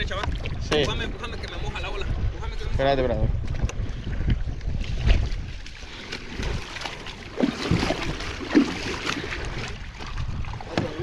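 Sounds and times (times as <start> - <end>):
kayak bump: 0.0 - 1.7, 3.4 - 11.0
water splashing against kayak: 0.0 - 2.3, 3.3 - 11.0.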